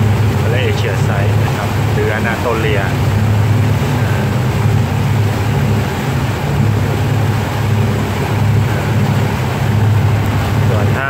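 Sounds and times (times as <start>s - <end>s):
boat engine droning: 0.0s - 11.0s
rushing wake water: 0.0s - 11.0s.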